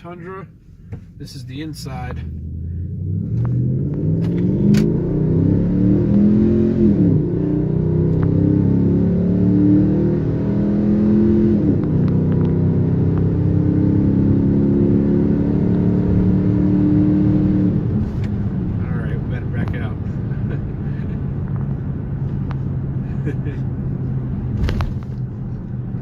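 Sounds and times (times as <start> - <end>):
truck engine accelerating: 1.5 - 26.0.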